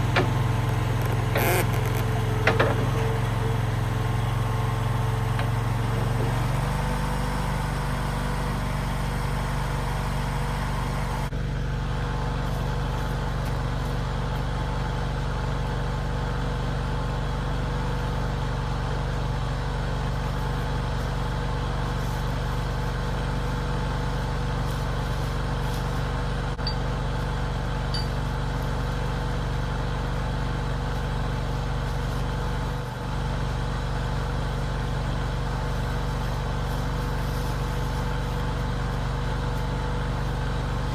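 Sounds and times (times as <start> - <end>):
skid steer engine running: 0.0 - 40.9.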